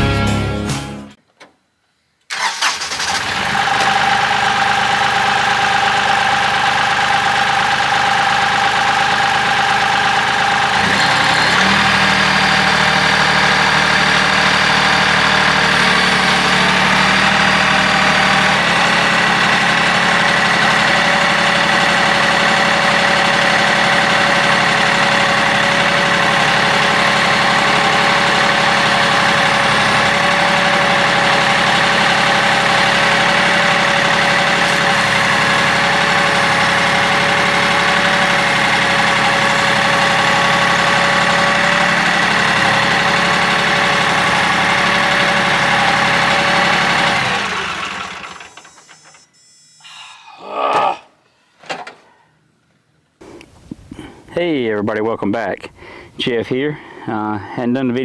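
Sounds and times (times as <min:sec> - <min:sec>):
tractor diesel engine running: 0:02.3 - 0:49.3.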